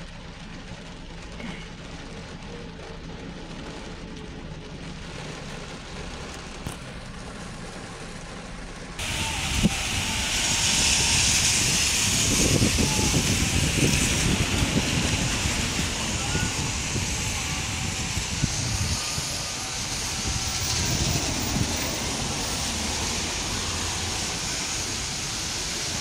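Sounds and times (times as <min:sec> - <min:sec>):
heavy rain hissing: 0:00.0 - 0:26.0
low rumble: 0:00.0 - 0:26.0
muffled rain: 0:00.0 - 0:26.0.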